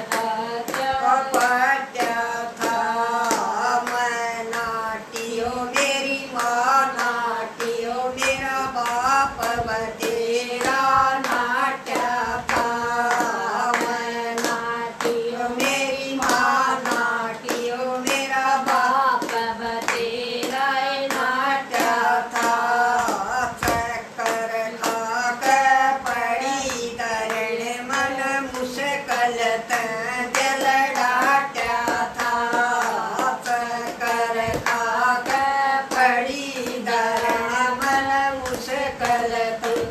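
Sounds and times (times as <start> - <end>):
hand claps keeping beat: 0.0 - 39.9
women singing folk song: 0.0 - 39.9.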